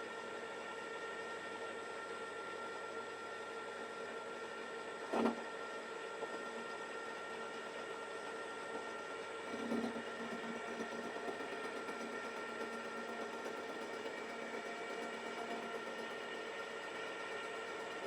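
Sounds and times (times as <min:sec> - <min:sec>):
milling machine hum and whine: 0:00.0 - 0:18.0.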